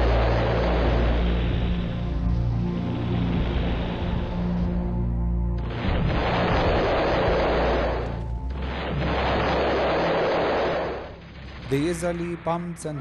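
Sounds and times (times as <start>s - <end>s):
background music with low tones: 0.0s - 13.0s.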